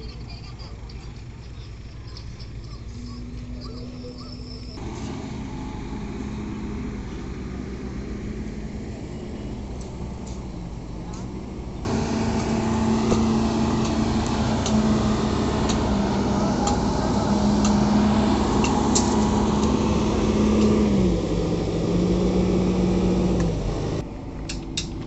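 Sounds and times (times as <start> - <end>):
concrete mixer engine hum: 0.0 - 25.0.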